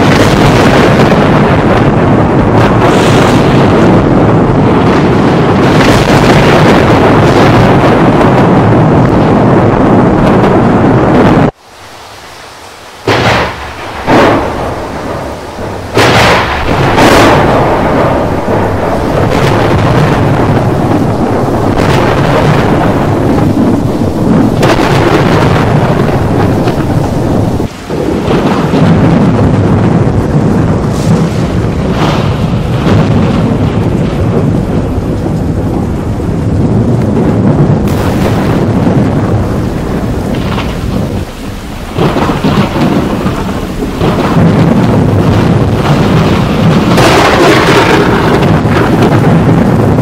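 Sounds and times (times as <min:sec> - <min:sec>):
sharp thunder crash: 0:00.0 - 0:11.6, 0:13.0 - 0:50.0
rain: 0:00.0 - 0:50.0
thunder rumbling: 0:00.0 - 0:50.0.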